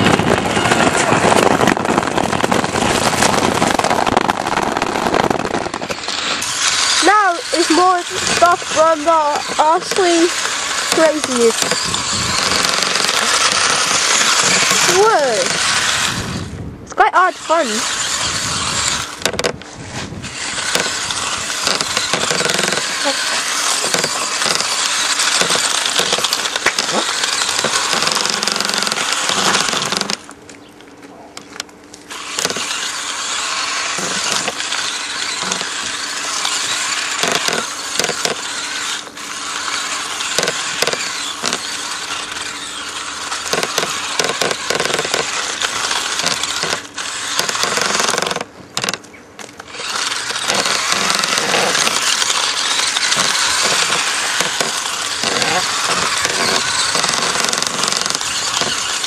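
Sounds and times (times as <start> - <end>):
remote-control car motor whirring: 0.0 - 30.4, 31.5 - 59.0.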